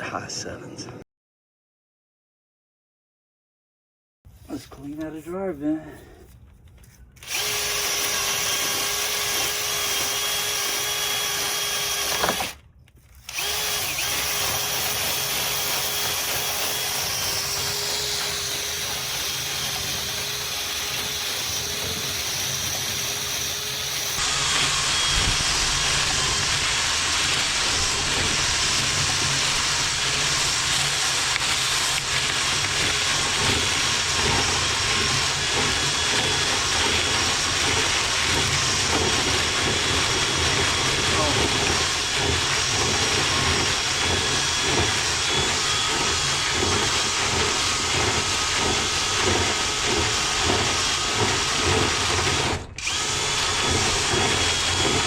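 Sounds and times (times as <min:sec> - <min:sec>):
power drill spinning brush: 0:04.4 - 0:55.0.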